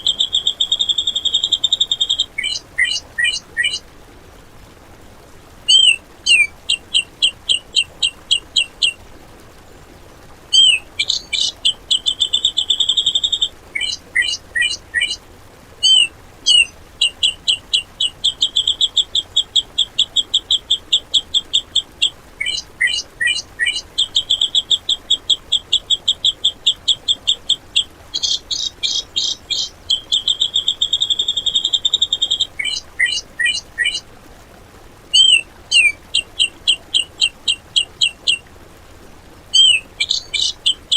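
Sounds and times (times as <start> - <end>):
bulbul song with buzzy trills: 0.0 - 3.9, 5.6 - 9.1, 10.4 - 15.2, 15.8 - 34.0, 35.1 - 38.5, 39.5 - 40.9.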